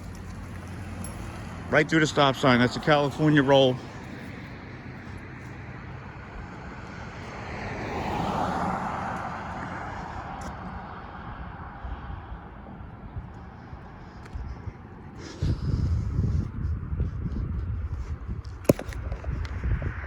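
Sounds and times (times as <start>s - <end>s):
vehicle passing by: 0.0s - 20.0s.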